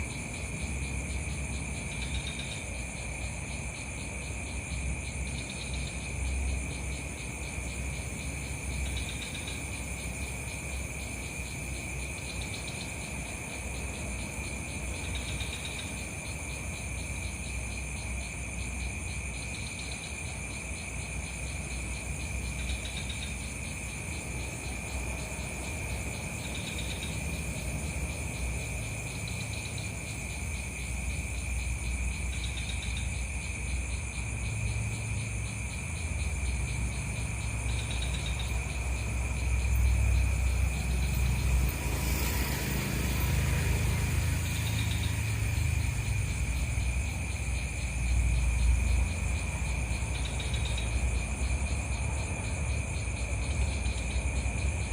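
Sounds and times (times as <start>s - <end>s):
insects trilling: 0.0s - 54.9s.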